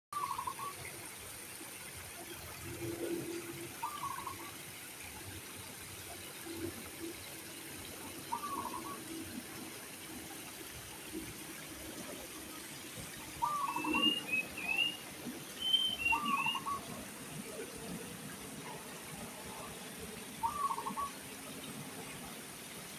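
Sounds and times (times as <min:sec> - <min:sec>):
trickling water: 0:00.1 - 0:22.9.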